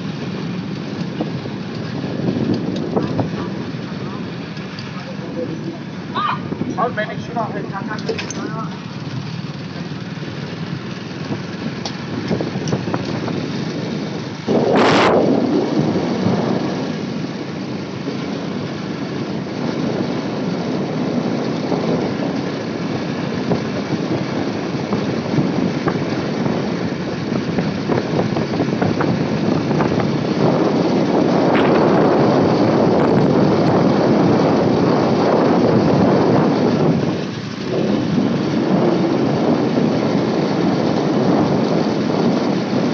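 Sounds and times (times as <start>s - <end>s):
motorcycle engine running: 0.0s - 42.9s
road noise: 0.0s - 42.9s.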